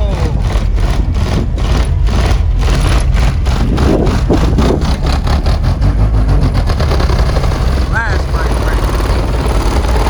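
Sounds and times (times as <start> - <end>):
deep bass from subwoofers: 0.0 - 8.8
rapid rattling pulse: 0.0 - 10.0.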